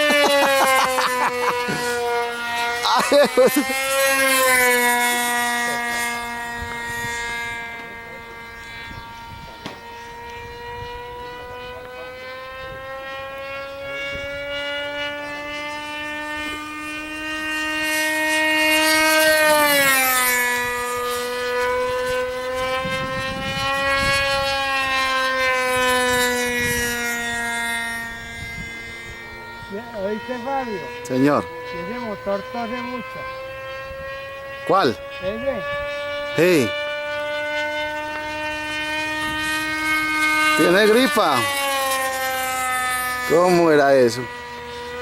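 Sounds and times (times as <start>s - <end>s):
model airplane engine buzzing: 0.0s - 45.0s.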